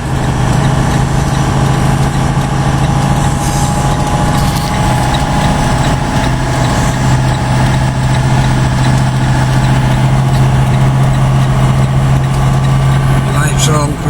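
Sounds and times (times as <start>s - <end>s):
truck diesel engine idling: 0.0s - 14.0s.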